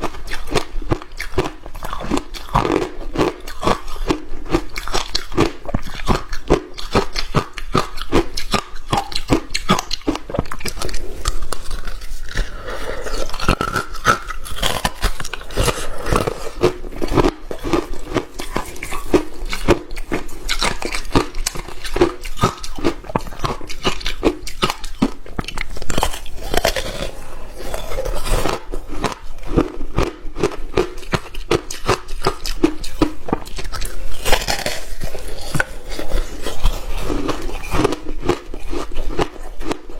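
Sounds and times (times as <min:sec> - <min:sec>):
person chewing hard ice: 0:00.0 - 0:39.9.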